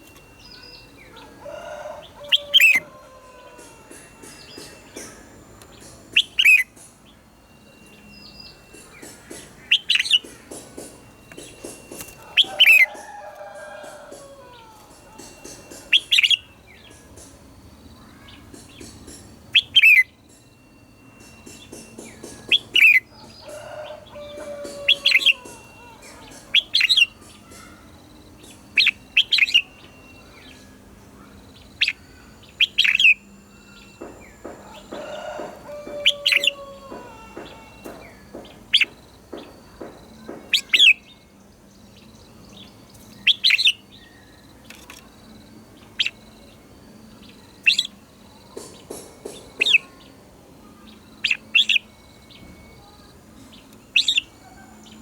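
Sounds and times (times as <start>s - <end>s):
bulbul whistled song: 0.0s - 45.0s.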